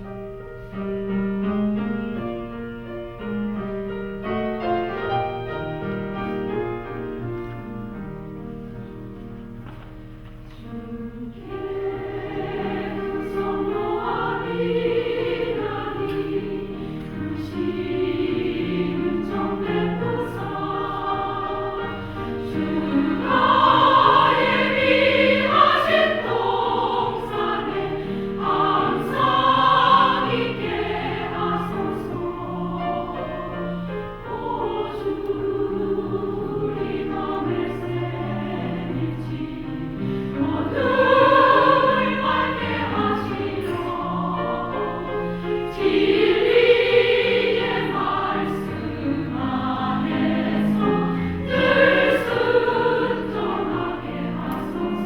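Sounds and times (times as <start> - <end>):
women's choir singing: 10.5 - 55.0.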